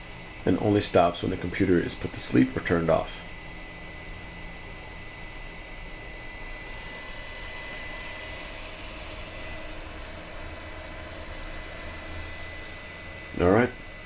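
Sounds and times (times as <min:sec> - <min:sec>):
computer cooling fans whooshing: 0:00.0 - 0:14.0
thin high whine: 0:00.0 - 0:14.0.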